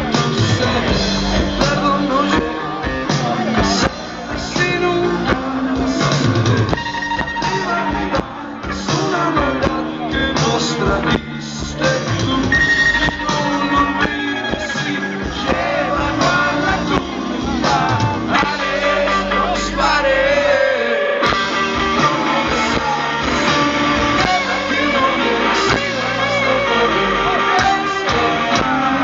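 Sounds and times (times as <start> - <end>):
live rock band: 0.0 - 29.0
person singing: 0.0 - 29.0.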